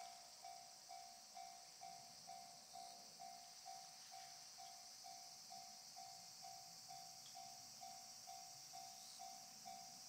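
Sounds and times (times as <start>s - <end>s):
high-pitched hiss: 0.0s - 10.0s.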